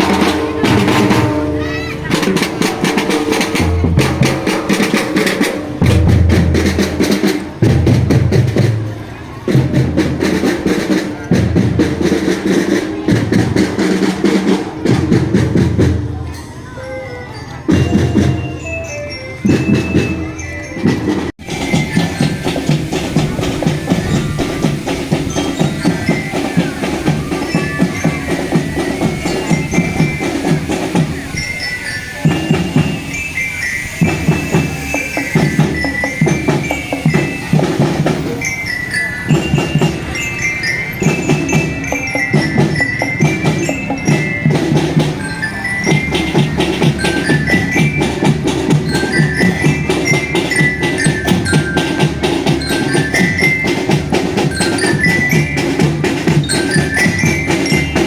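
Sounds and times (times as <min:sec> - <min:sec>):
snare and bass drumming: 0:00.0 - 0:16.2, 0:19.4 - 0:31.5, 0:32.2 - 0:38.6, 0:40.9 - 0:58.0
glockenspiel mallet melody: 0:09.8 - 0:58.0.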